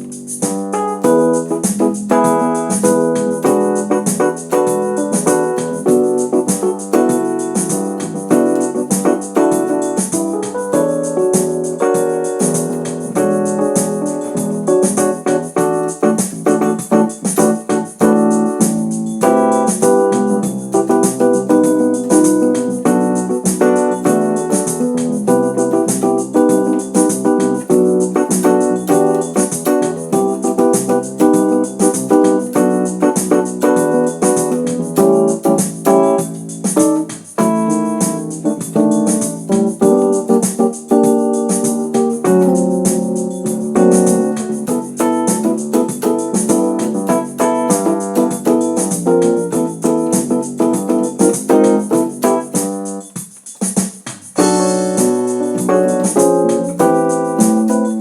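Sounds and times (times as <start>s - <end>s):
electric keyboard playing chords: 0.0s - 53.7s, 54.3s - 58.0s.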